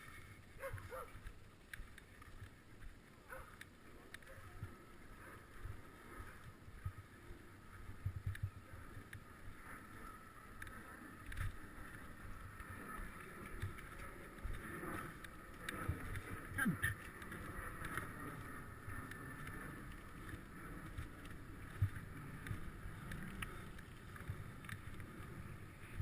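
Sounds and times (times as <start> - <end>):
bicycle rolling noise: 0.0 - 26.0.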